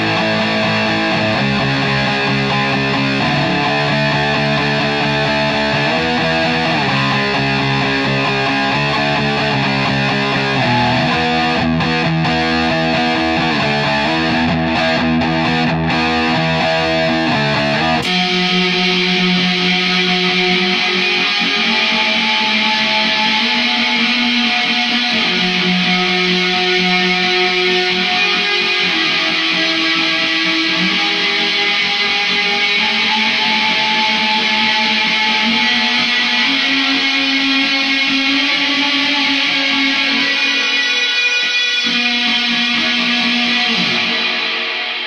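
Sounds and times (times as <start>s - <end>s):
layered electric guitars ringing: 0.0s - 45.0s.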